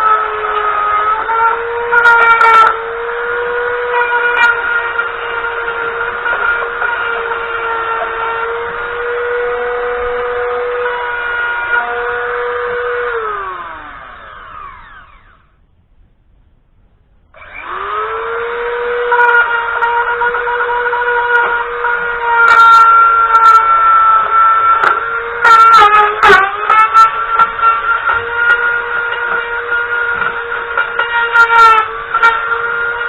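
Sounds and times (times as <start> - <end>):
electric power tool running: 0.0 - 15.6, 17.4 - 33.0.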